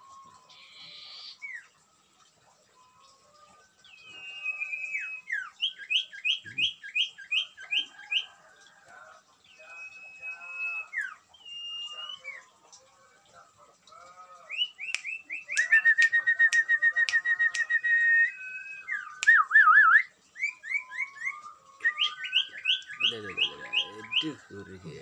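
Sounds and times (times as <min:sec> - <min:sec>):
bird trill: 0:00.0 - 0:01.8, 0:02.6 - 0:08.4, 0:09.4 - 0:12.6, 0:14.4 - 0:25.0
songbirds chirping and whistling: 0:00.0 - 0:13.6, 0:14.2 - 0:25.0.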